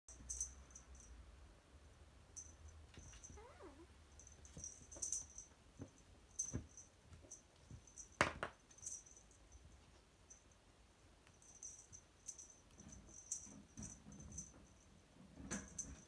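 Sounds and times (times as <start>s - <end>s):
high tinkling jingles: 0.1s - 1.2s, 2.4s - 10.7s, 11.3s - 16.0s.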